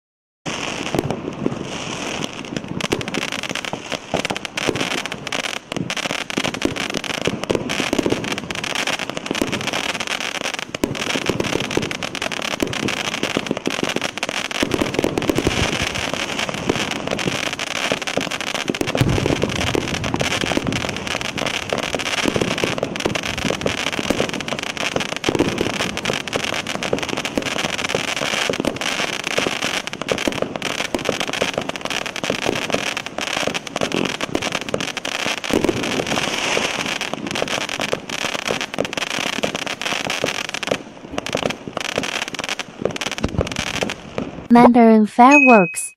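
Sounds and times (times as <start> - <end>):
fireworks bangs and pops: 0.5 - 45.6.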